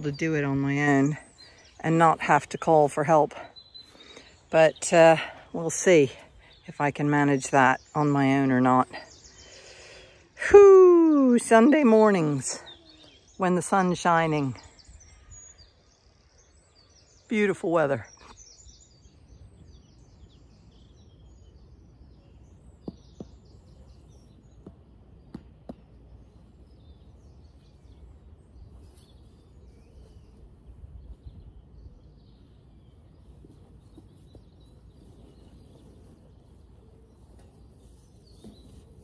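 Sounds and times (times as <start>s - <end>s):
birds chirping: 0.0s - 10.5s, 11.2s - 39.0s.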